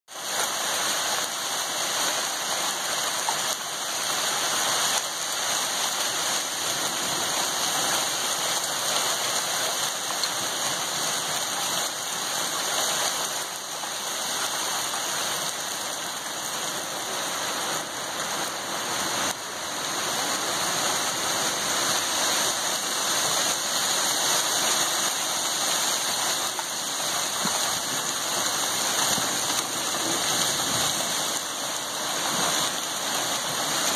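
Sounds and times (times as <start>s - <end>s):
hail and rain pelting down: 0.1s - 33.9s.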